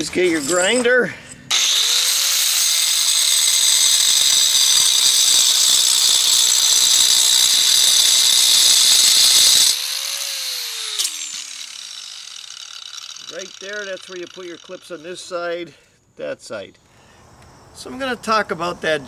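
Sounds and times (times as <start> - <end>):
angle grinder grinding stone: 0.0 - 15.5.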